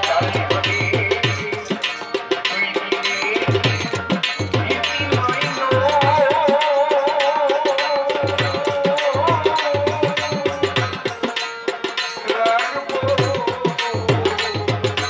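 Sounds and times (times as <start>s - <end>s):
hand drums rhythm: 0.0s - 15.0s.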